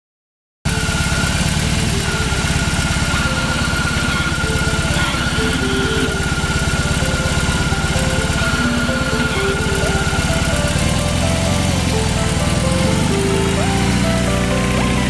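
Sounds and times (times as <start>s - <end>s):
high-pitched whine: 0.7s - 15.0s
motorcycle engine idling: 0.7s - 15.0s.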